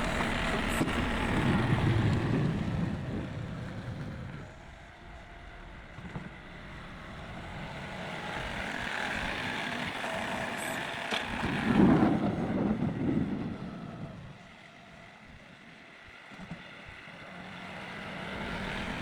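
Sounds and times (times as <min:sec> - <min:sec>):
vehicle passing by: 0:00.0 - 0:15.1, 0:16.7 - 0:19.0.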